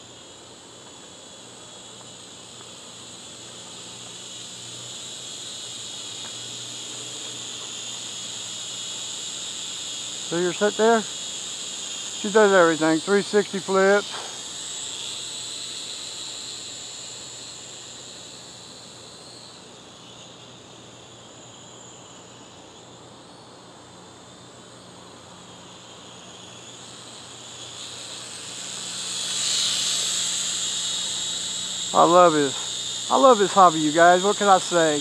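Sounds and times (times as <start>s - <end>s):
toy quadcopter propellers whining: 0.0s - 23.6s, 24.6s - 35.0s.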